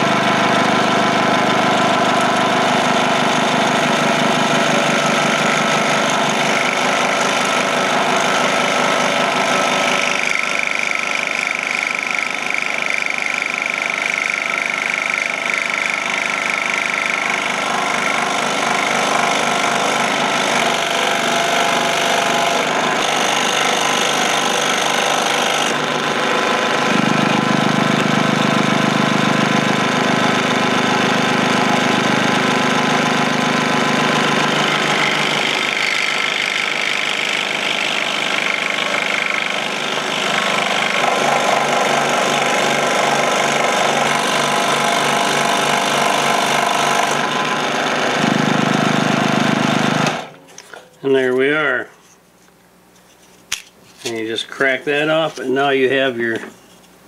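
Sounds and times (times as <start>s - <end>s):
scroll saw cutting wood: 0.0s - 50.5s.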